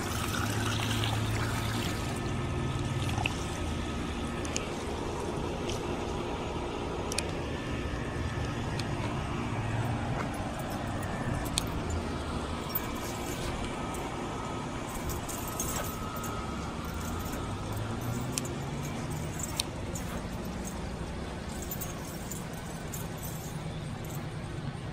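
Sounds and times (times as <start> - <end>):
distant road traffic rumble: 0.0 - 24.9.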